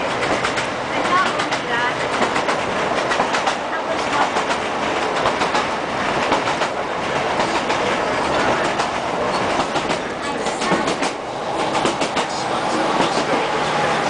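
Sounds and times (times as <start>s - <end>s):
wheels clicking over rail joints: 0.0s - 12.4s
train running noise: 0.0s - 14.0s.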